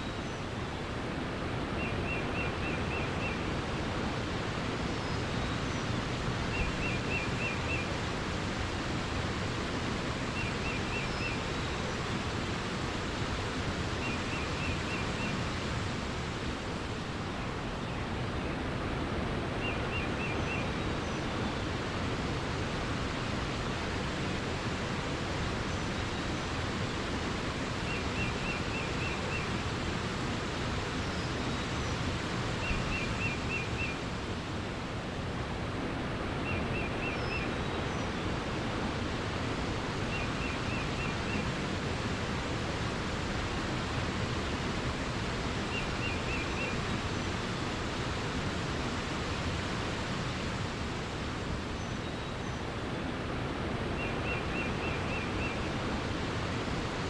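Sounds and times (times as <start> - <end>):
songbird singing: 0.0 - 0.9, 1.6 - 18.9, 19.5 - 21.9, 22.5 - 34.6, 35.8 - 56.4
flowing water: 0.0 - 57.0.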